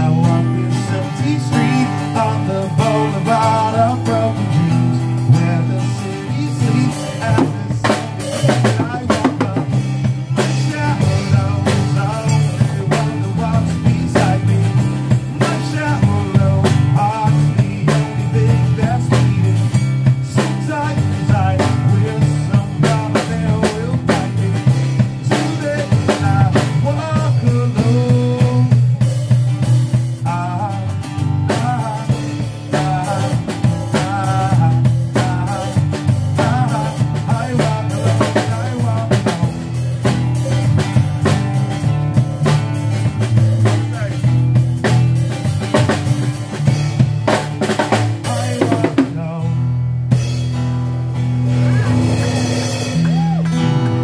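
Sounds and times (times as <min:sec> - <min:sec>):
bass notes: 0:00.0 - 0:54.0
drum kit beating: 0:00.0 - 0:54.0
melodic guitar line: 0:00.0 - 0:54.0.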